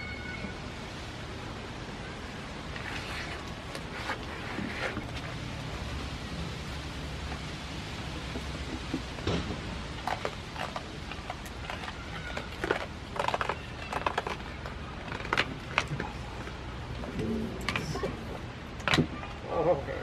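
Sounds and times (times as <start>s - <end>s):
steady background noise: 0.0s - 20.0s
goats rustling and clicking: 2.8s - 19.0s.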